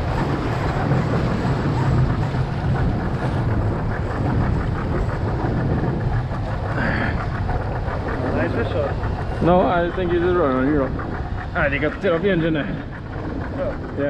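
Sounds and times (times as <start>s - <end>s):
outboard motor running: 0.0s - 14.0s
wind buffeting microphone: 0.0s - 14.0s.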